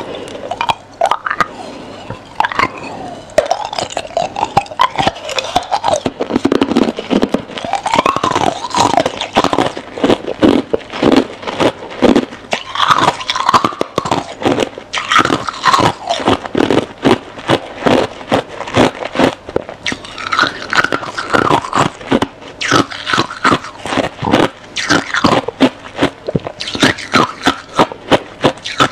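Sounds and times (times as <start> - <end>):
crunching frost being chewed: 0.0 - 28.9.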